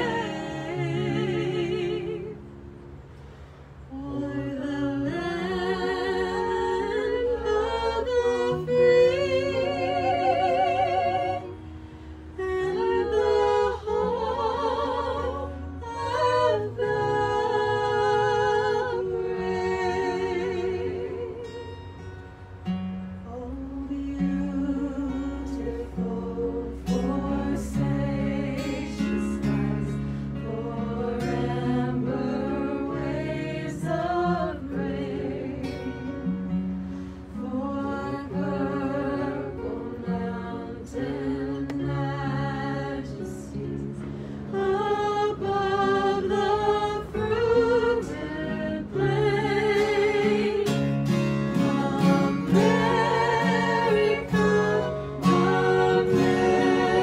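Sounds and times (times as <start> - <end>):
voices singing with vibrato: 0.0 - 2.7, 3.9 - 11.7, 12.3 - 21.8, 23.3 - 36.4, 37.1 - 57.0
acoustic guitars: 0.0 - 57.0
ukulele: 0.0 - 57.0.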